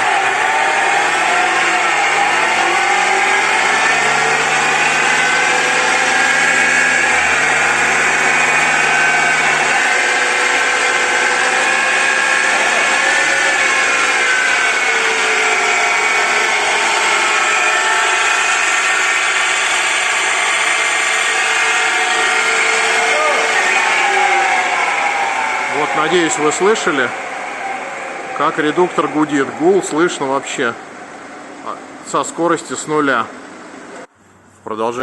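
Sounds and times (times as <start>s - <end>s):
car engine running: 0.0s - 32.0s
differential whining hum: 0.0s - 35.0s.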